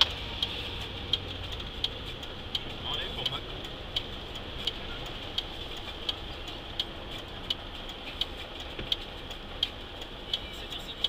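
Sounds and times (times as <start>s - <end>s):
indicator relay ticking: 0.0s - 11.0s
truck engine and road noise: 0.0s - 11.0s.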